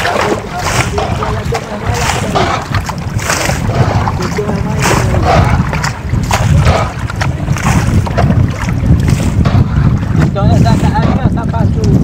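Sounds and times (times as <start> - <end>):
water slapping against canoe: 0.0 - 12.0
wind buffeting microphone: 0.0 - 12.0.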